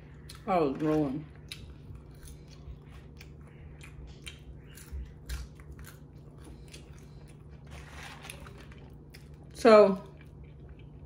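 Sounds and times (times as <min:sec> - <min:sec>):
crunchy chewing: 0:00.1 - 0:11.0.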